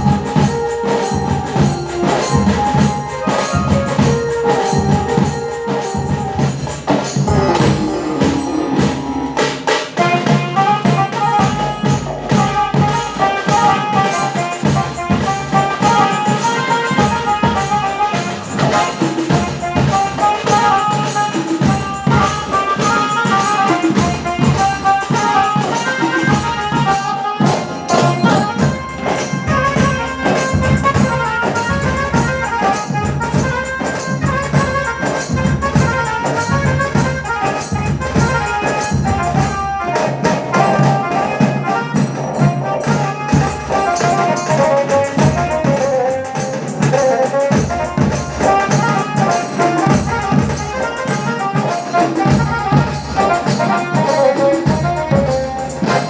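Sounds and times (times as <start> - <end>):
band music: 0.0 - 56.0
rapid tasa drumming: 0.0 - 56.0.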